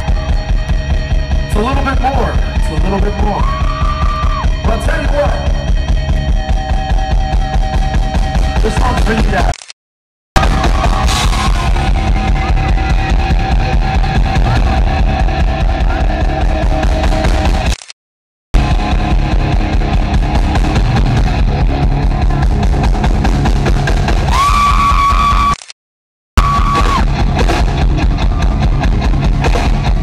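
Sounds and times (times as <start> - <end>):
live rock band playing loud: 0.0 - 9.3, 10.4 - 17.6, 18.6 - 24.4, 26.4 - 30.0.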